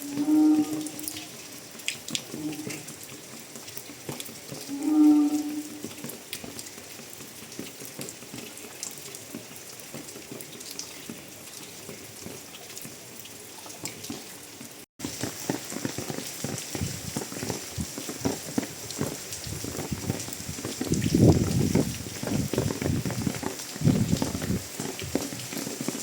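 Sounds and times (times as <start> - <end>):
drops splashing and dripping: 0.0 - 26.0
rain falling: 0.0 - 26.0.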